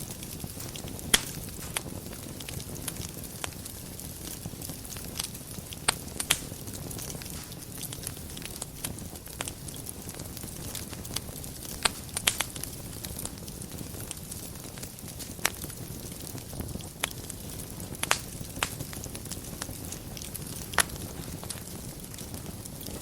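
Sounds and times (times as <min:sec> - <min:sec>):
fire crackles and pops: 0:00.0 - 0:23.0
flames rumbling: 0:00.0 - 0:23.0.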